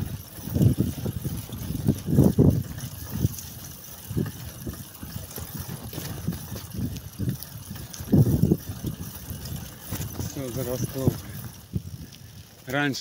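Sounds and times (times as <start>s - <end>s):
bicycle tyres rumbling over ruts: 0.0s - 13.0s
wind buffeting microphone: 0.0s - 13.0s.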